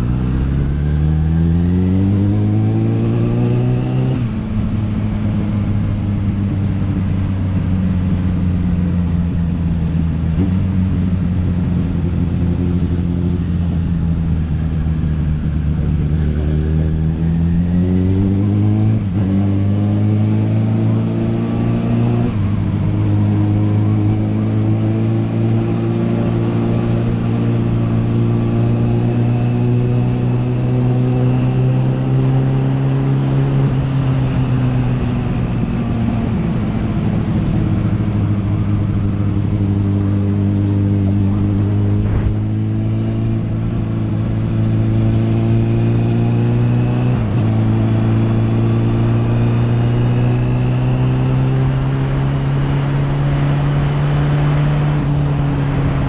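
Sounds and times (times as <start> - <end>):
motorcycle engine running: 0.0 - 56.0
wind rushing over microphone: 9.7 - 56.0.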